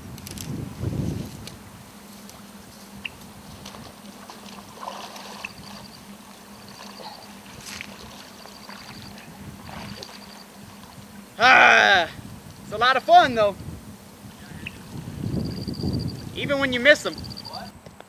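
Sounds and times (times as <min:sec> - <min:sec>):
rustling through grass: 0:00.0 - 0:17.7
low steady hum: 0:00.0 - 0:17.8.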